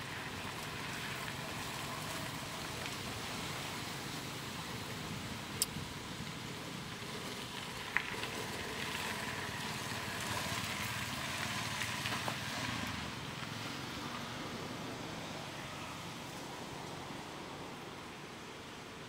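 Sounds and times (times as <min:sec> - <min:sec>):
open-air ambient hiss: 0:00.0 - 0:19.0.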